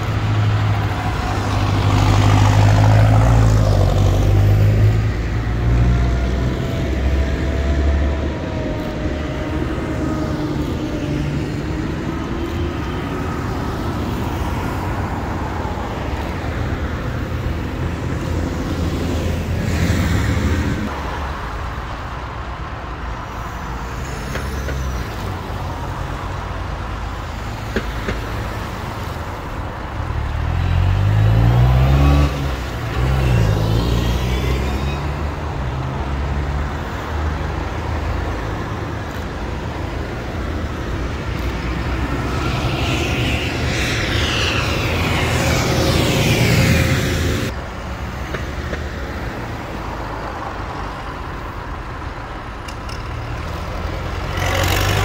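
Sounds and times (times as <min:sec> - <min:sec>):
diesel tractor engines: 0:00.0 - 0:55.0
traffic rumble: 0:00.0 - 0:55.0.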